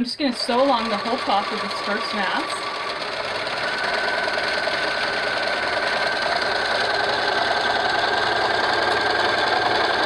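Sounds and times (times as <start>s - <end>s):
electric sewing machine running: 0.2s - 10.0s.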